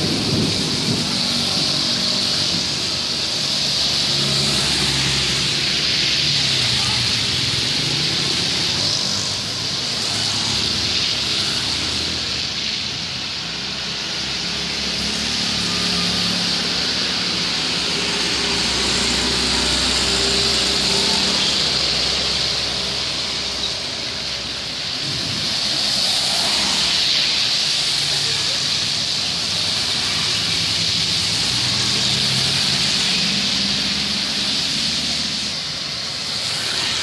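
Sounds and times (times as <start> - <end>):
heavy rain and tyre spray: 0.0 - 37.0
motor scooters passing: 0.0 - 37.0.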